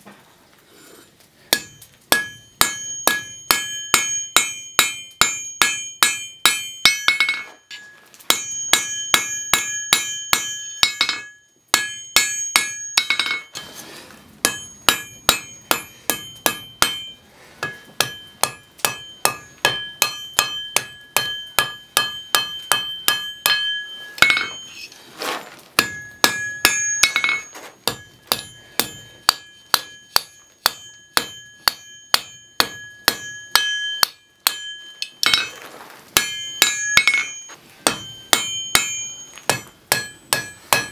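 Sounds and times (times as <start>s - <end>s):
hammer striking metal on anvil: 1.5s - 13.8s, 14.4s - 24.7s, 25.8s - 35.6s, 36.2s - 40.9s.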